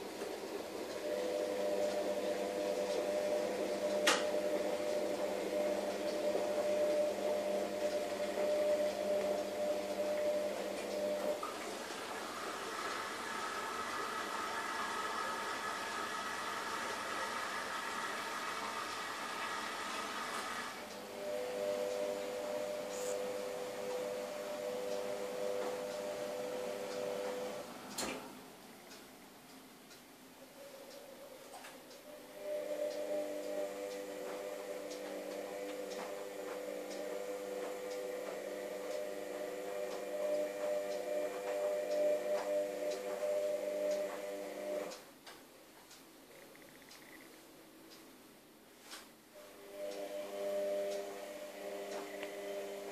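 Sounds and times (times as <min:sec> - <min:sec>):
mechanical hum: 0:00.0 - 0:52.9.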